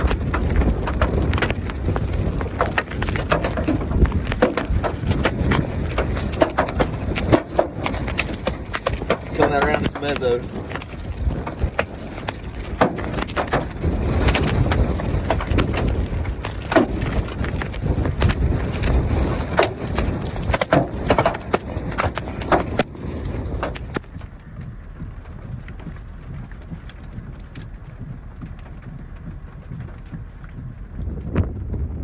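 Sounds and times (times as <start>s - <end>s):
hailstones striking a vehicle: 0.0s - 31.6s
wind rushing: 0.0s - 32.0s.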